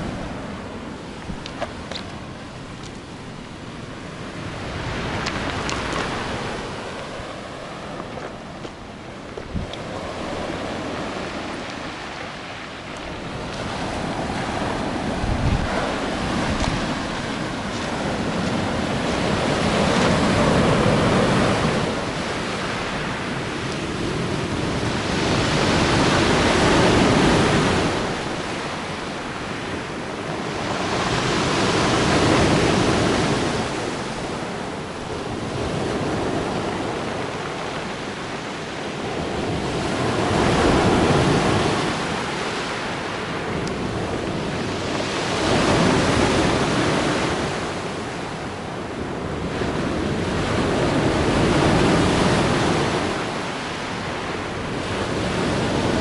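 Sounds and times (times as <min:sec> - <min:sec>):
sea waves breaking on beach: 0:00.0 - 0:56.0
wind on microphone: 0:00.0 - 0:56.0.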